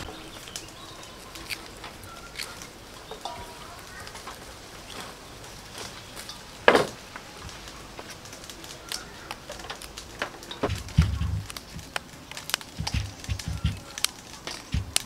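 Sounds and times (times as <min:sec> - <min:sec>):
hands handling leaves crackling: 0:00.0 - 0:15.0.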